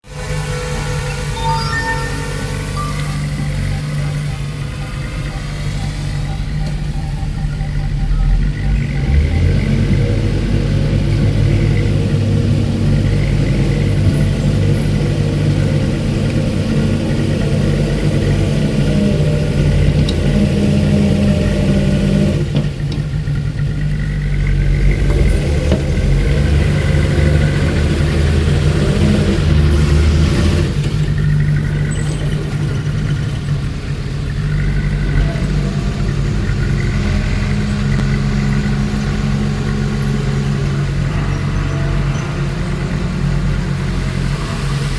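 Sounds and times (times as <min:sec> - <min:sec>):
bulldozer and truck diesel engines: 0:00.0 - 0:44.9.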